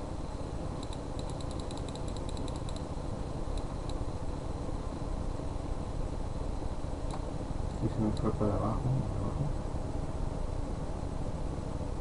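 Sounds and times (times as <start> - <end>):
low background rumble and hiss: 0.0 - 12.0.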